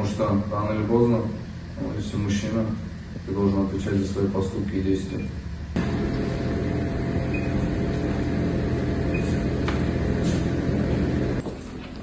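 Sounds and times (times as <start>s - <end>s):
motor hum and rumble: 0.0s - 11.5s.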